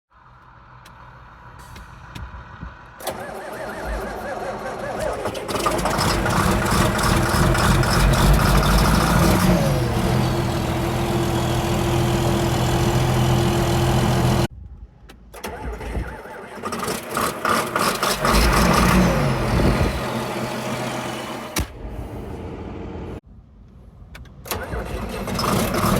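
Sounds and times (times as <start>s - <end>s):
tractor diesel engine starting: 0.2s - 14.5s, 15.3s - 23.2s, 24.4s - 25.9s.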